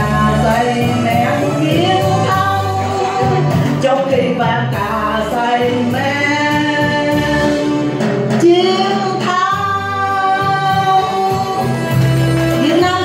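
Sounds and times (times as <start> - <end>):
instrumental accompaniment: 0.0 - 13.0.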